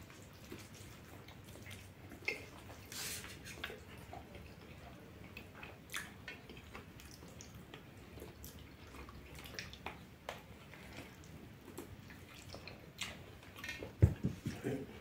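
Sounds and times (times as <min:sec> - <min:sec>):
wet chewing mouth clicks: 0:00.0 - 0:13.9.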